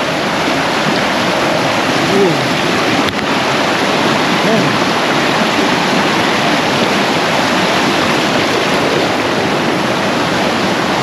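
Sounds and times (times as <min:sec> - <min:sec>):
mountain stream rushing over rocks: 0:00.0 - 0:11.0.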